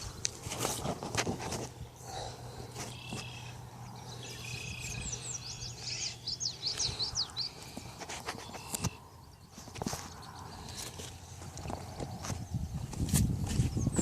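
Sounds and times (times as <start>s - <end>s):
low steady hum: 0.0s - 14.0s
small birds chirping: 1.7s - 14.0s.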